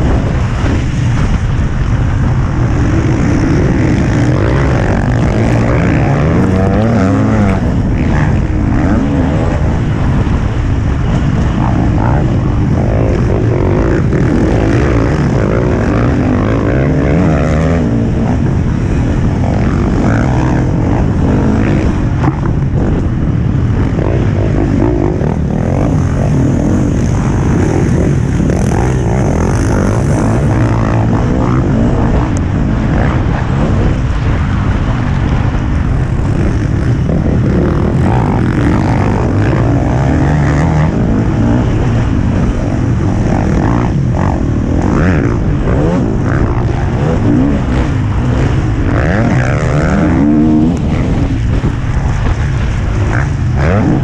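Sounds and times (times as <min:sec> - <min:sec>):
motocross bike engine revving: 0:00.0 - 0:54.0
wind rushing over microphone: 0:00.0 - 0:54.0.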